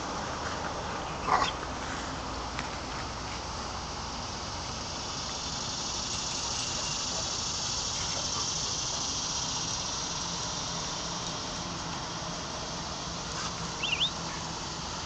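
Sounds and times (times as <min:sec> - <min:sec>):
high-pitched outdoor hiss: 0:00.0 - 0:15.0.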